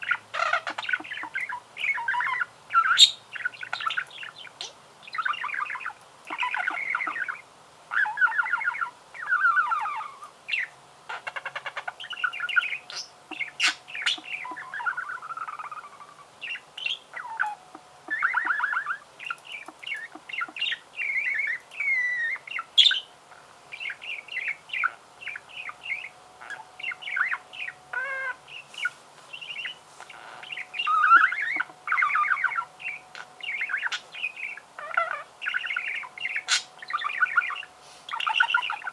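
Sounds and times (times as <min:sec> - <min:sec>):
budgerigar warbling: 0:00.0 - 0:23.1, 0:23.8 - 0:28.4, 0:29.6 - 0:38.9.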